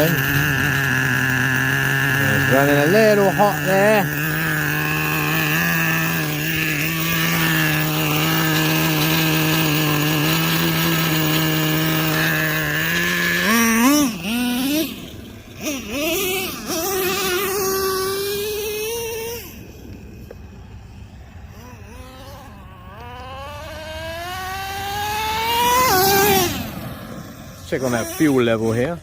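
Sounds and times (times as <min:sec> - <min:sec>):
nitro engine revving: 0:00.0 - 0:29.0.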